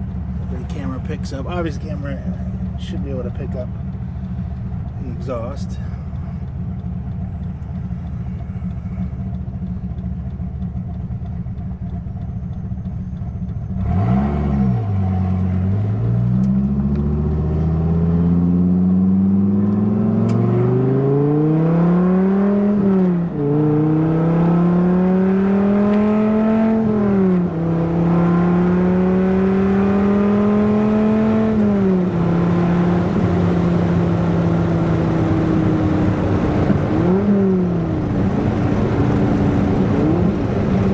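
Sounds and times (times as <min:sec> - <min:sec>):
car engine accelerating through gears: 0:00.0 - 0:40.9
road noise: 0:00.0 - 0:40.9.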